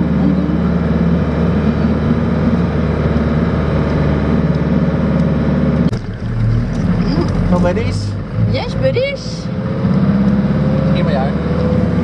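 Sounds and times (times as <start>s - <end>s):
pulsing exhaust note: 0.0s - 12.0s
van engine droning: 0.0s - 12.0s.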